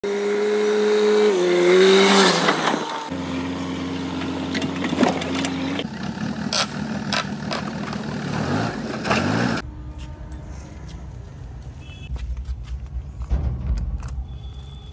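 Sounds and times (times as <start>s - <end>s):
diesel engines running: 0.0s - 13.4s.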